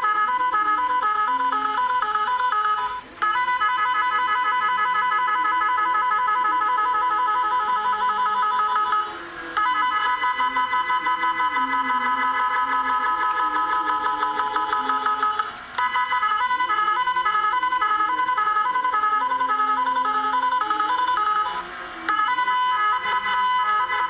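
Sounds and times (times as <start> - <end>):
electronic horn melody tones: 0.0 - 24.0.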